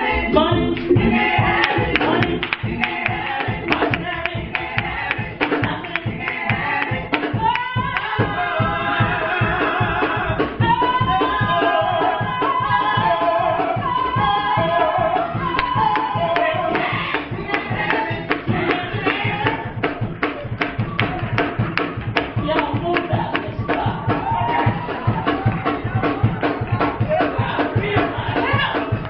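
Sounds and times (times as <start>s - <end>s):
person singing gospel: 0.0s - 20.0s, 22.2s - 29.0s
band playing: 0.0s - 29.0s
steady drum beat: 0.0s - 29.0s.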